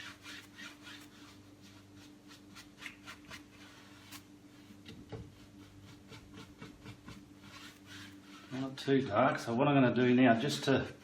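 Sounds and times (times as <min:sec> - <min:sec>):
paintbrush swishing on canvas: 0:00.0 - 0:08.9
low electrical hum: 0:00.0 - 0:11.0.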